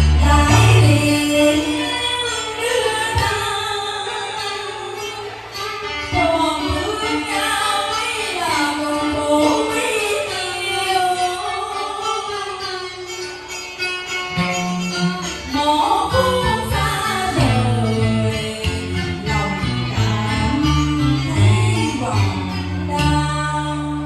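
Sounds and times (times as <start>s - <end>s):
woman singing ornamented phrases: 0.0s - 5.3s, 6.0s - 13.0s, 15.5s - 24.0s
instrumental accompaniment: 0.0s - 24.0s.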